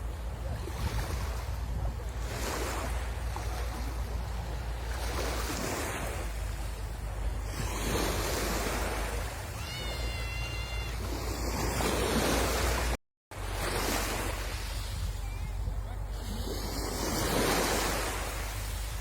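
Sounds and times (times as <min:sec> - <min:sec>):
sea waves breaking: 0:00.0 - 0:19.0
wind rumble on microphone: 0:00.0 - 0:19.0.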